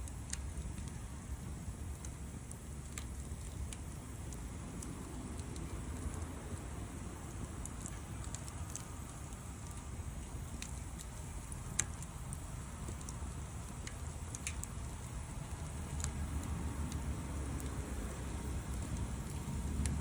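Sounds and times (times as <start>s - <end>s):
bonfire crackling and popping: 0.0s - 20.0s
low rumble of fire: 0.0s - 20.0s.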